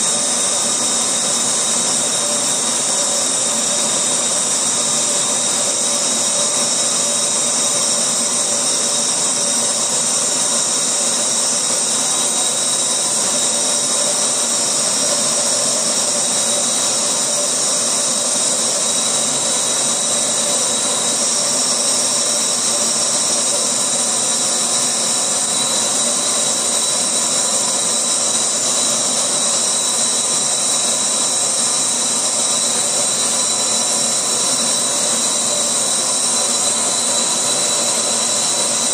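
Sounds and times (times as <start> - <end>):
laser engraver hiss and whine: 0.0 - 38.9.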